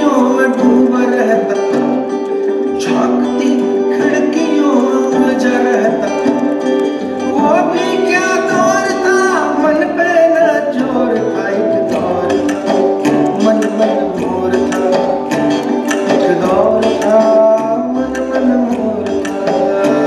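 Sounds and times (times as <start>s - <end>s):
melodic notes bending in pitch: 0.0s - 20.0s.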